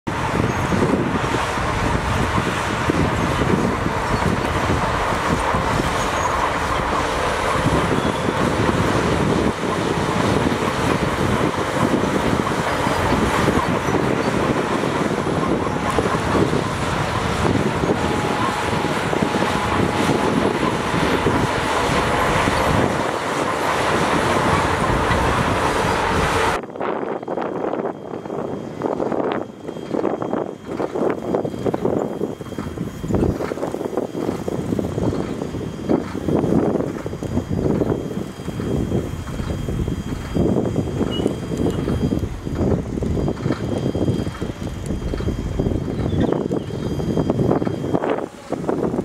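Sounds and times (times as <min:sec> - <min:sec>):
heavy earthmoving machinery running: 0:00.0 - 0:49.0.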